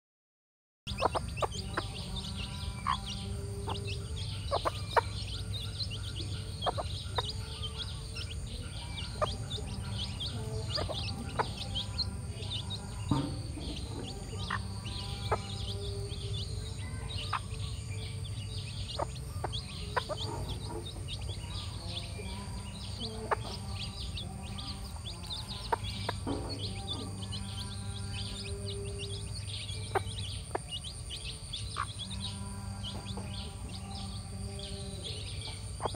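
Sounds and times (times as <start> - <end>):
hen clucking: 0.9 - 33.8
chicks peeping: 0.9 - 35.9.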